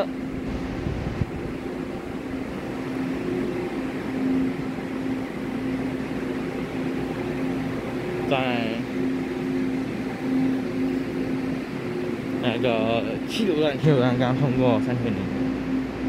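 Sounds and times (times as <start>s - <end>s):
mechanical hum and rumble: 0.0s - 16.0s.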